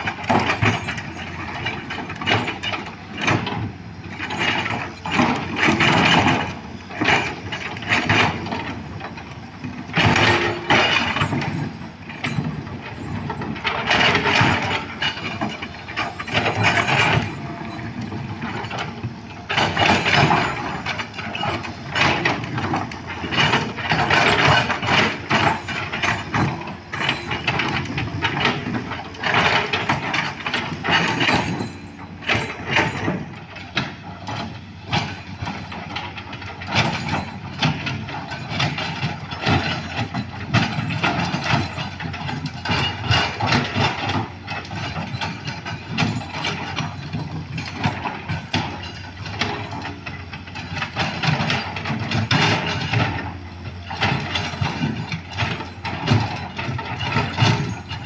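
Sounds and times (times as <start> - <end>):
excavator clanking and grinding: 0.0 - 58.0.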